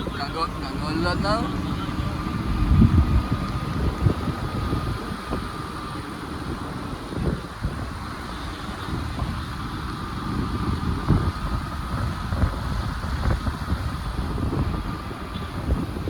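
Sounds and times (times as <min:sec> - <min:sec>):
moving vehicle noise: 0:00.0 - 0:16.0
wind buffeting microphone: 0:00.0 - 0:16.0.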